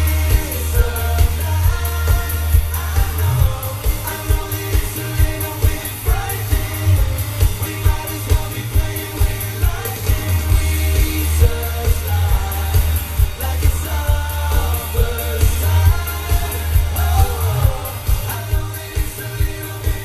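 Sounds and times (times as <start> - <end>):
man singing into microphone: 0.0 - 20.0
pop backing track with heavy bass: 0.0 - 20.0.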